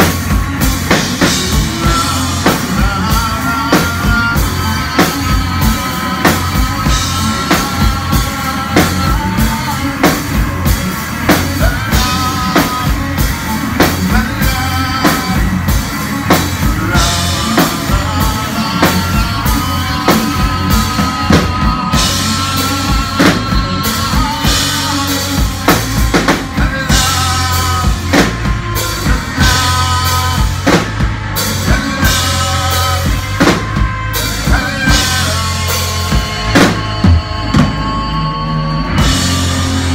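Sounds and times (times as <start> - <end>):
drum-kit beat: 0.0 - 39.9
electric bass: 0.0 - 39.9
electric guitar: 0.0 - 39.9
man singing: 0.0 - 39.9.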